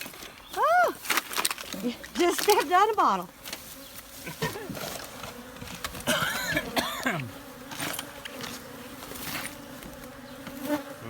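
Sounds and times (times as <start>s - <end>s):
bees buzzing in a swarm: 2.1s - 11.0s
bees flying close by: 2.1s - 11.0s.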